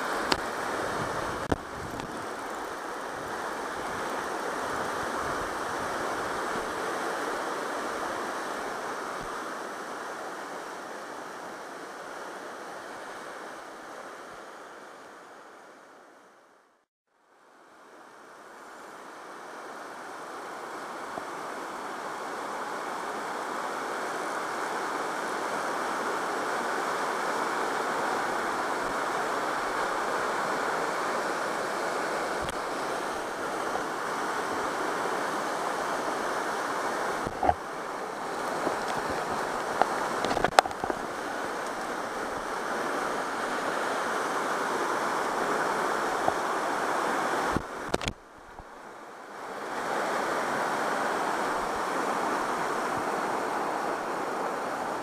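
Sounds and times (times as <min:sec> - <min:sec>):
river rapids rushing: 0:00.0 - 0:15.9, 0:17.7 - 0:55.0.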